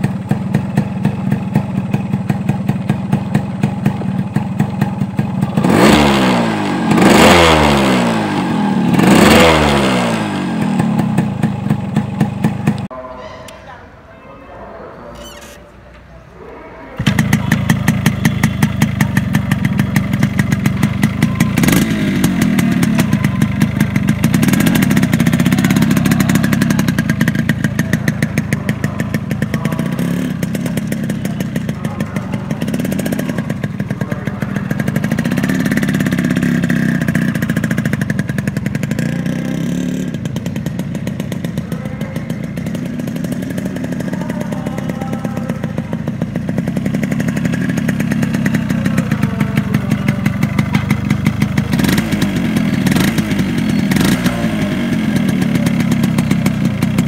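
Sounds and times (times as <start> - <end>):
motorcycle engine revving: 0.0 - 13.0, 16.8 - 57.0.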